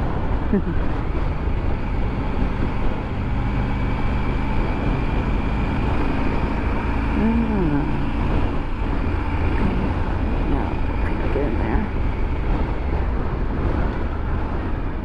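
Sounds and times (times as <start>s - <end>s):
motorcycle engine running: 0.0s - 14.9s
road noise: 0.0s - 15.0s.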